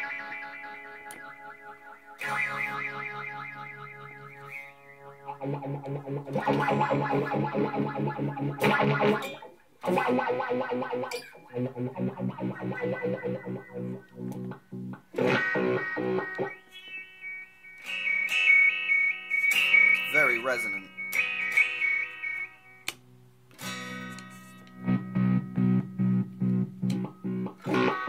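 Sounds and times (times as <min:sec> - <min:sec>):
filtered electric guitar chords: 0:00.0 - 0:28.0.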